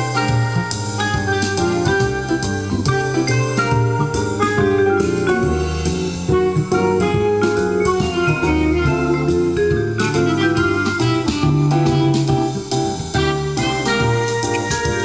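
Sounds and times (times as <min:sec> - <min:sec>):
keyboard demo song with beat: 0:00.0 - 0:15.0.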